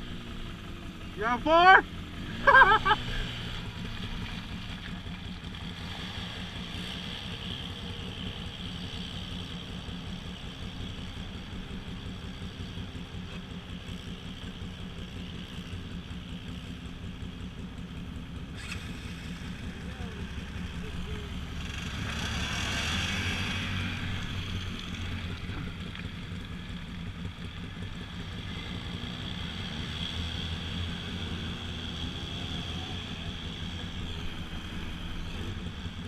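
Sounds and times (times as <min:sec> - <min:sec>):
engine running at low revs: 0:00.0 - 0:36.0.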